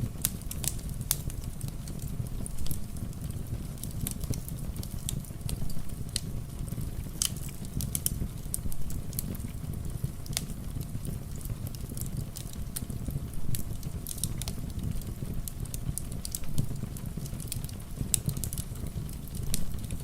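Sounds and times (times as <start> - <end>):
rain: 0.0 - 20.0
wood fire crackling: 0.0 - 20.0.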